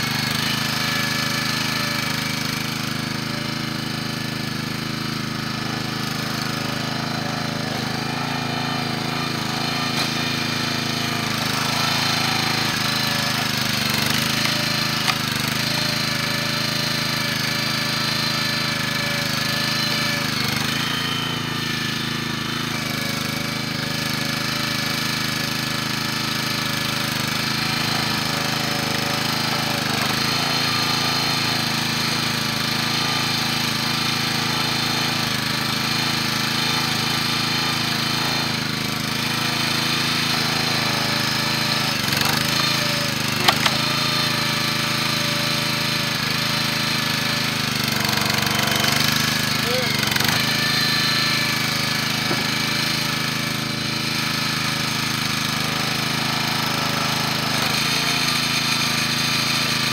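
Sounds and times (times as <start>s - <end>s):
log splitter gas engine running: 0.0s - 59.9s.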